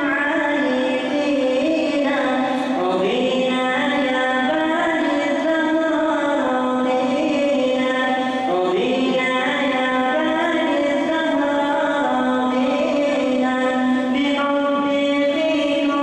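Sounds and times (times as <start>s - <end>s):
person chanting unaccompanied: 0.0s - 16.0s.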